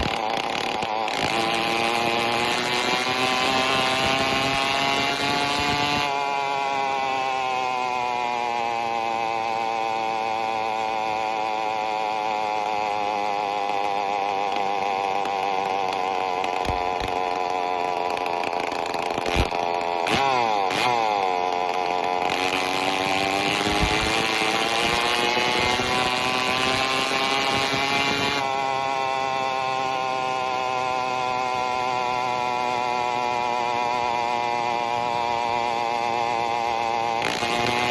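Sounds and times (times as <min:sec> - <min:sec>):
two-stroke engine running: 0:00.0 - 0:37.9.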